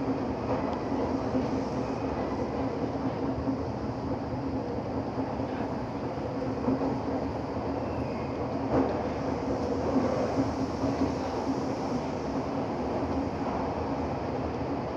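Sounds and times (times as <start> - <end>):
train hum: 0.0 - 14.9
train wheels rumbling on rail: 0.0 - 14.9.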